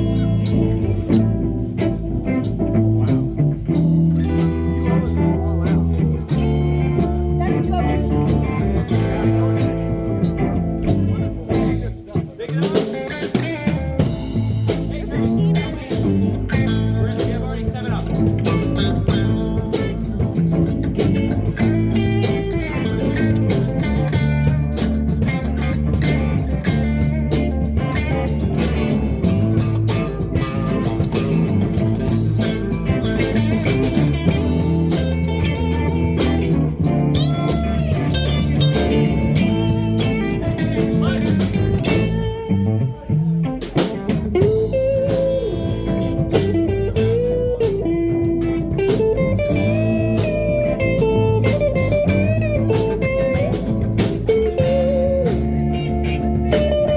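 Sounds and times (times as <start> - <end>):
electric guitar lead bending notes: 0.0 - 56.9
live blues band playing: 0.0 - 56.9.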